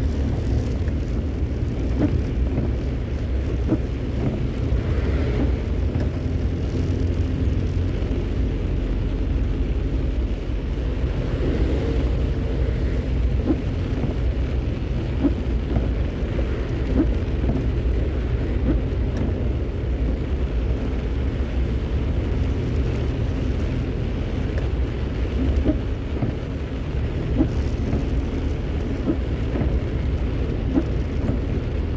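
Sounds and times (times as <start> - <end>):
rain on wet road hissing: 0.0 - 31.9
vehicle engine and road rumble: 0.0 - 31.9.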